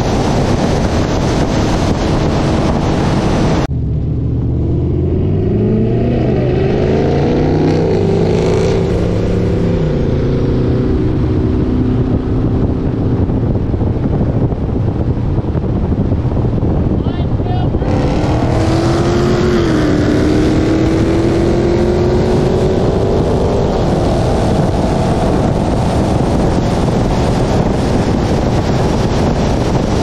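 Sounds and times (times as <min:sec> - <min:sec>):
car engine revving: 0:00.0 - 0:30.0
wind and road noise inside car: 0:00.0 - 0:30.0.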